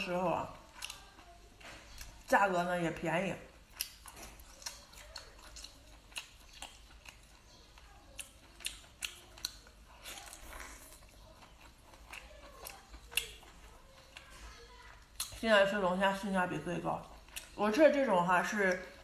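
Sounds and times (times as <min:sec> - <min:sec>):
chewing: 0:00.0 - 0:02.8, 0:03.4 - 0:19.0.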